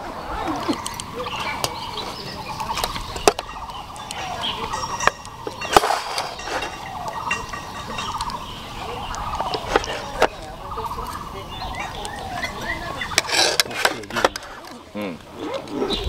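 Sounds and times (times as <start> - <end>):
metal utensils clinking on pots: 0.6 - 14.8.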